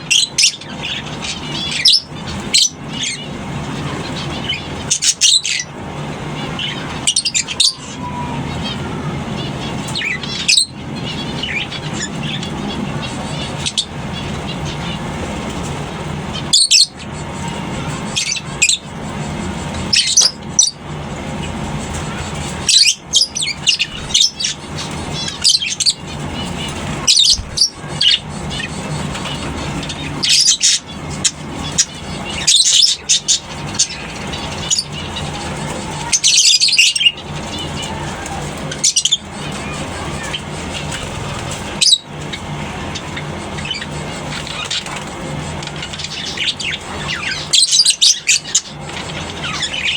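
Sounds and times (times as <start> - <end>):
lovebirds shrill chirps: 0.0 - 49.9
low background hum: 0.0 - 49.9.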